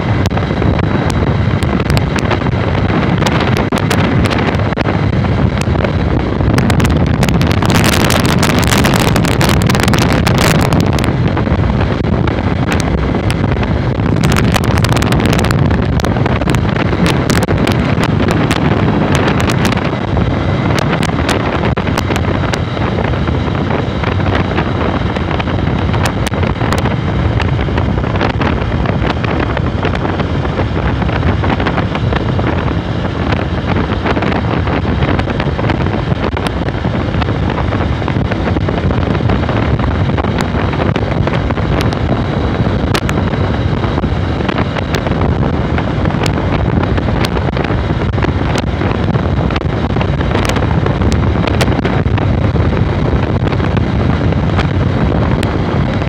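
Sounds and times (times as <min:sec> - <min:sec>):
motorcycle engine cruising: 0:00.0 - 0:56.0
wind buffeting microphone: 0:00.0 - 0:56.0.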